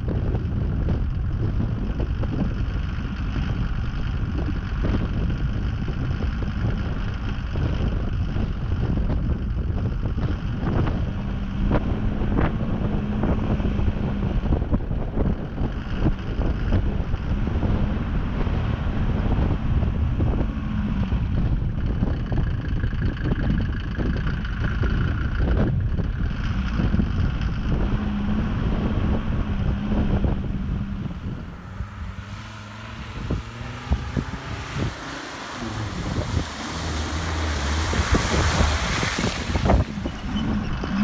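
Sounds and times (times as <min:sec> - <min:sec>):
vehicle engine hum: 0:00.0 - 0:41.0
wind rumble on microphone: 0:00.0 - 0:41.0.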